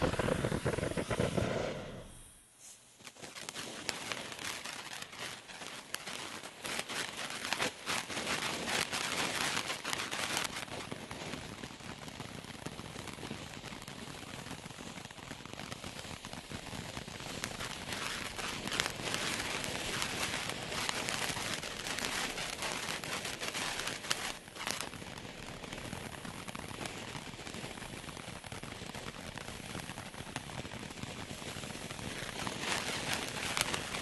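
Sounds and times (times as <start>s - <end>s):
firework crackling: 0.0s - 34.0s.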